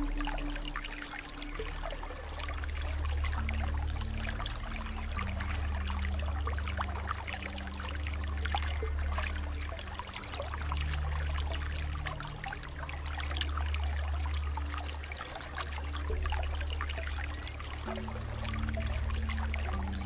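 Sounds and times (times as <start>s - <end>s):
low ambient drone: 0.0s - 20.0s
running water trickling: 0.0s - 20.0s.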